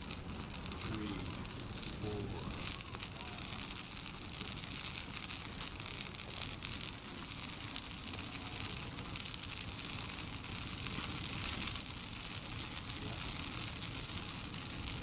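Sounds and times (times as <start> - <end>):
fire crackling and popping: 0.0 - 15.0
rush of flames: 0.0 - 15.0.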